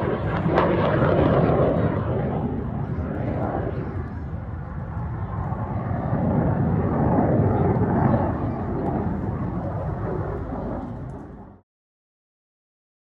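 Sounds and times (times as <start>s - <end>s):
jet flying past: 0.0s - 11.6s.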